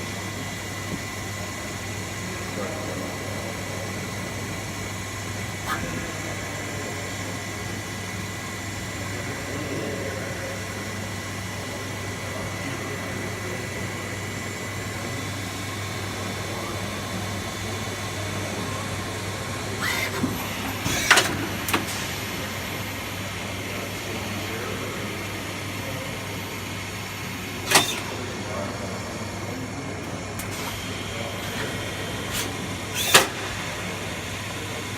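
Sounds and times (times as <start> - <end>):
lathe humming and whining: 0.0 - 34.9.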